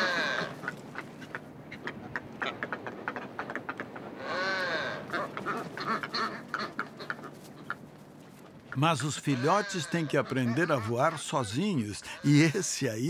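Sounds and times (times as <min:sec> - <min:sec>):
drawn-out seabird call: 0:00.0 - 0:07.9, 0:08.7 - 0:13.0.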